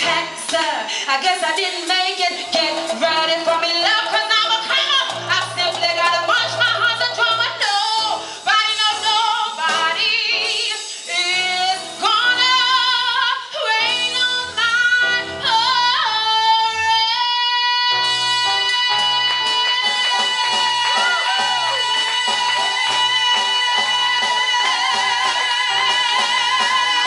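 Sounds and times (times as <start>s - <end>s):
woman singing: 0.0s - 27.0s.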